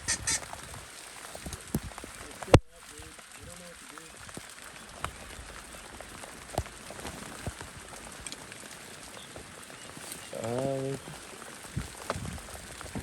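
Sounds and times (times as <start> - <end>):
close raindrop taps: 0.0 - 13.0
steady rain falling: 0.0 - 13.0.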